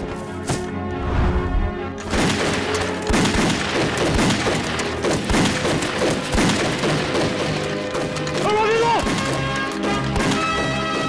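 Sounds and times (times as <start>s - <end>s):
dramatic background music: 0.0s - 11.0s
gunshots: 2.0s - 11.0s.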